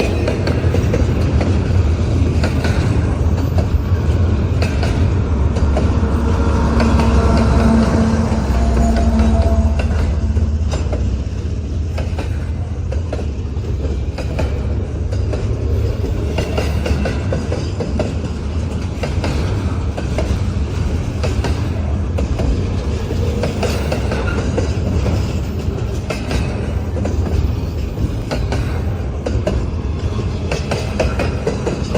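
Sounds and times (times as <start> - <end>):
train cars rumbling: 0.0 - 31.9.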